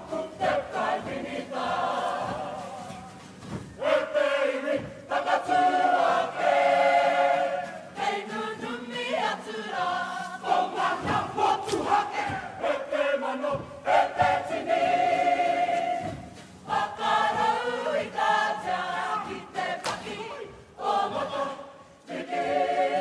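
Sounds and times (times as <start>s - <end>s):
group singing and chanting: 0.0s - 23.0s.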